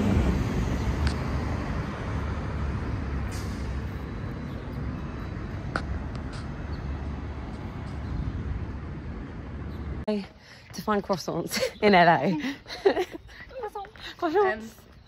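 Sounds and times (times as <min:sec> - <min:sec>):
passing vehicles rumbling: 0:00.0 - 0:15.0.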